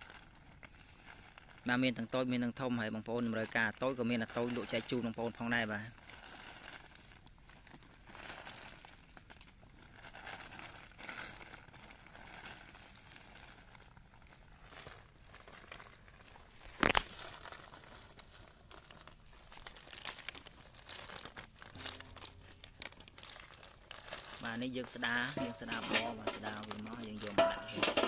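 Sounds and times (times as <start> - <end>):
plastic tarp crinkling: 0.0 - 28.0
snail shells clicking and clattering: 0.0 - 28.0.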